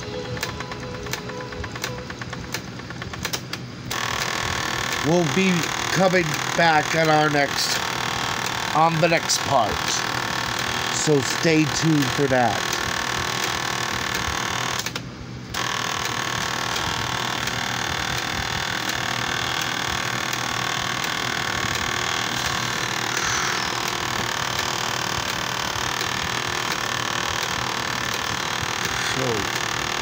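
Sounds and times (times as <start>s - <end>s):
cassette tape hiss and deck noise: 0.0s - 30.0s.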